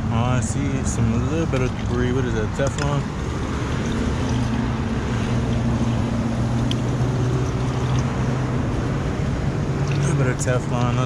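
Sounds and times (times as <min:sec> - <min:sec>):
constant rushing noise: 0:00.0 - 0:11.0
low mechanical hum: 0:00.0 - 0:11.0.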